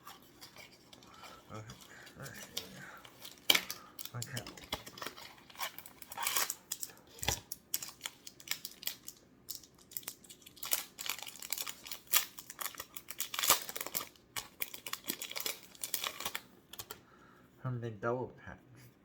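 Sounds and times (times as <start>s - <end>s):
plastic packaging crinkling: 0.2s - 17.0s.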